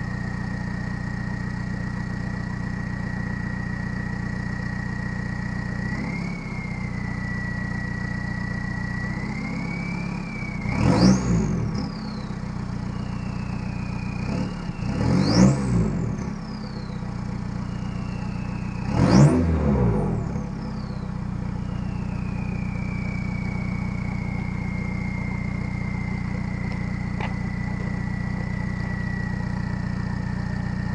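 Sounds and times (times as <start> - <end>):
diesel engine idling and revving: 0.0 - 30.9
high turbo whine: 0.0 - 30.9.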